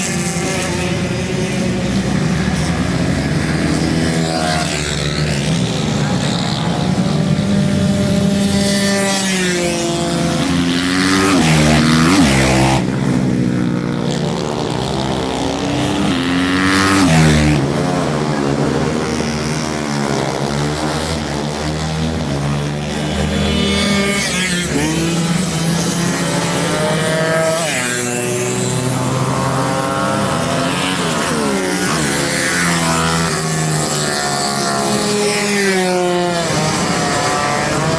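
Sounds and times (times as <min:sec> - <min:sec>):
racing motorcycle engines: 0:00.0 - 0:37.9.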